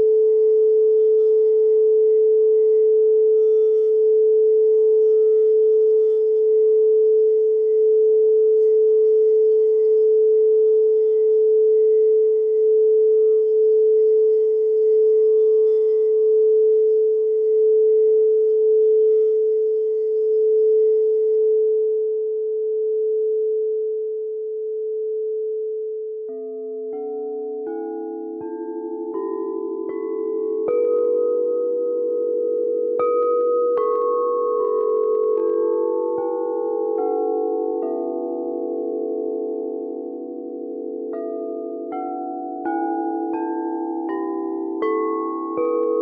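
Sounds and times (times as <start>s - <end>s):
crystal singing bowl tone: 0.0s - 46.0s.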